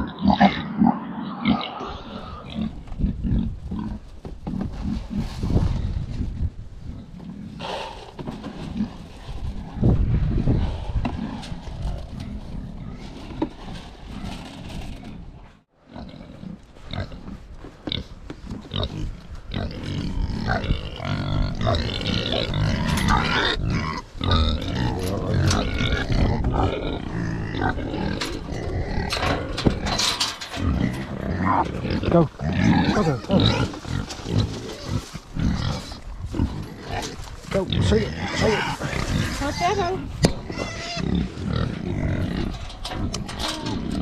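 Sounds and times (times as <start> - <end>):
pigs grunting: 0.0 - 5.6, 10.5 - 44.0.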